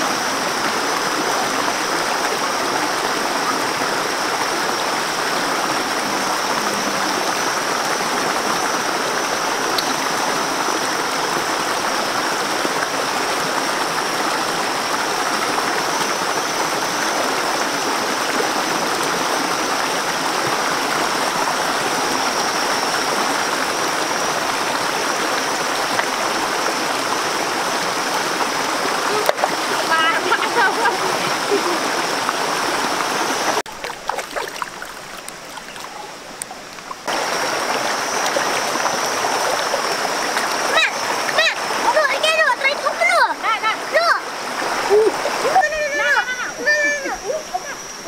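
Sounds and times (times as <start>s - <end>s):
stream rushing over stones: 0.0s - 48.0s.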